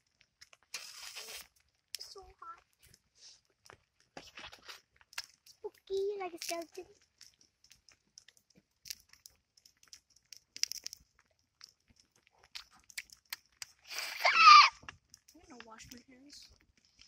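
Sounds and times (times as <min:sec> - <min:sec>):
oysters crackling on a fire: 0:00.0 - 0:17.0.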